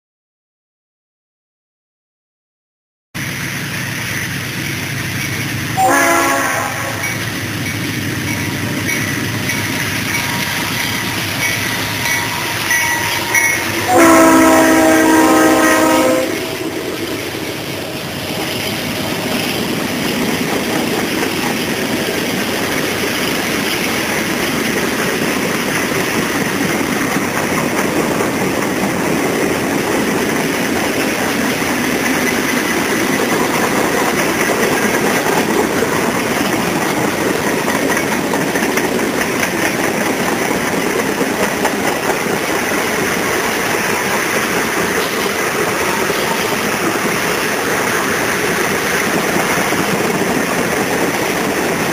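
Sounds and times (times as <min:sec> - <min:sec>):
train wheels rushing on rail: 0:03.2 - 0:51.9.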